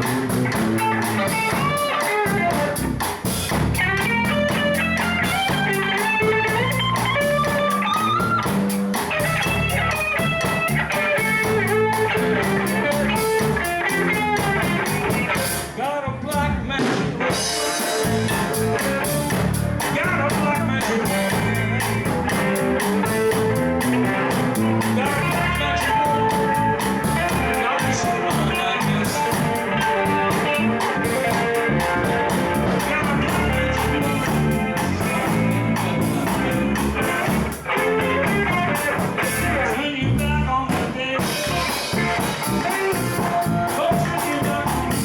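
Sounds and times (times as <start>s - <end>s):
band melody line: 0.0s - 15.8s, 17.3s - 40.1s, 40.7s - 45.0s
drum beat: 0.0s - 15.8s, 16.9s - 39.6s, 40.7s - 45.0s.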